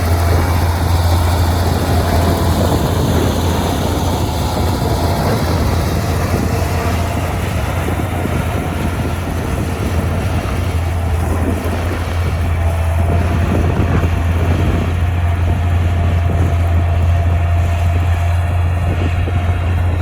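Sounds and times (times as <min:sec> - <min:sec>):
diesel machine engine humming: 0:00.0 - 0:20.0.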